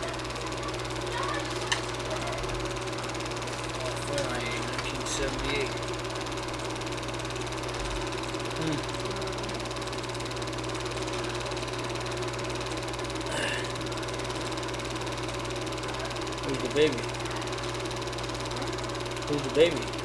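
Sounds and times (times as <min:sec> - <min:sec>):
film projector whirring: 0:00.0 - 0:20.0.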